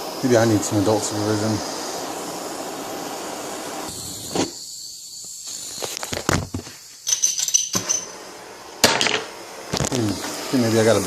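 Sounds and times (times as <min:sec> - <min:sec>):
blow torch hissing unevenly: 0:00.0 - 0:11.0.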